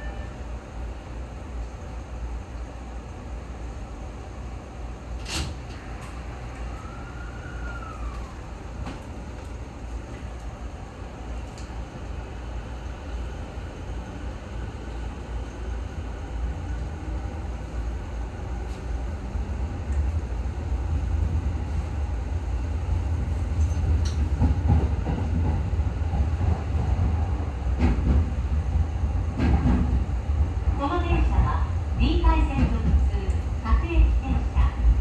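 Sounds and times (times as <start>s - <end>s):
electric train rumble: 0.0s - 35.0s.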